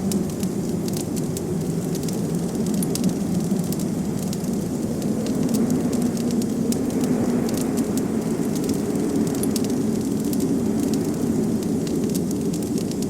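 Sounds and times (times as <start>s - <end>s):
low rumble of wind: 0.0s - 13.0s
wood fire crackling: 0.0s - 13.0s.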